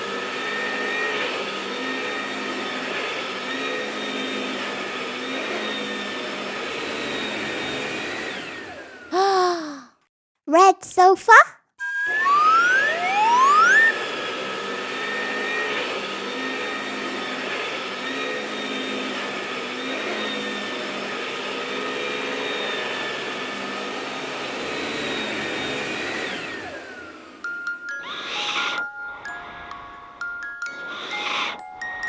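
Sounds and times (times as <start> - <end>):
toy vacuum cleaner motor whine: 0.0 - 9.2, 11.8 - 32.0.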